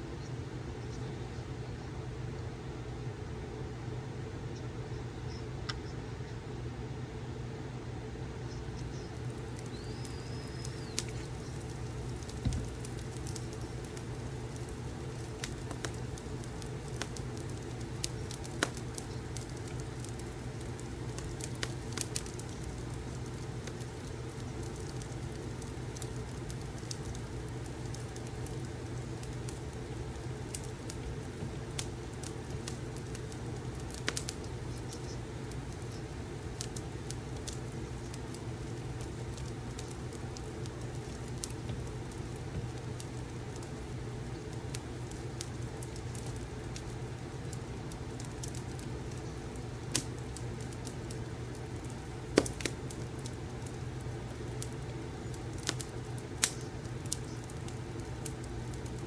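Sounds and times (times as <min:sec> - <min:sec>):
fireplace crackling and popping: 0:08.1 - 0:59.0.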